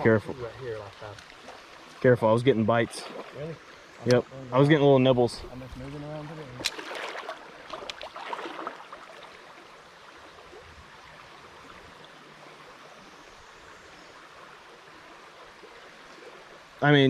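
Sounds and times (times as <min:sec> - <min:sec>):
creek water running: 0:00.0 - 0:17.0.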